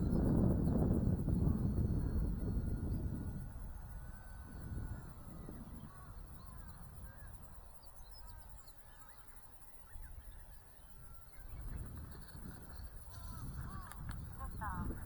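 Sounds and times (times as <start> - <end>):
birds chirping: 0.0 - 15.0
wind buffeting microphone: 0.0 - 15.0.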